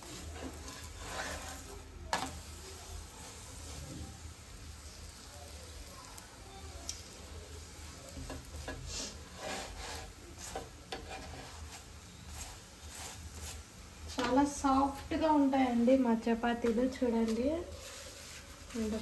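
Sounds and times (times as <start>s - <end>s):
spatula scraping a griddle: 0.0s - 5.8s, 6.9s - 15.1s, 16.6s - 19.0s
flatbread sizzling: 0.0s - 19.0s.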